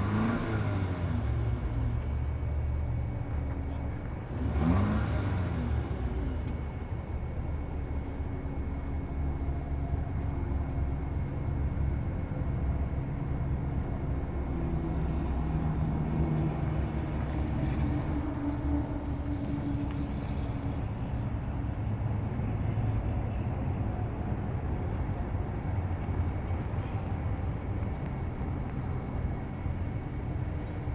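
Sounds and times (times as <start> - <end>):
car engine and exhaust rumbling: 0.0 - 30.9.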